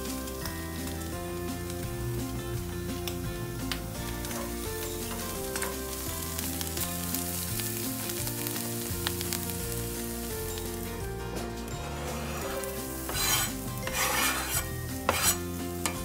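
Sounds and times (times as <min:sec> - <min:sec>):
background music: 0:00.0 - 0:16.0
cheese sizzling in frying pan: 0:00.0 - 0:16.0.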